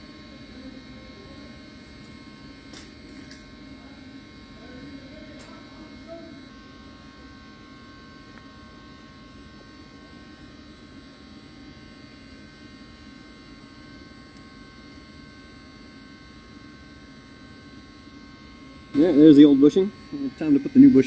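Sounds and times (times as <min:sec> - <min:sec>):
machinery hum: 0:00.0 - 0:21.0.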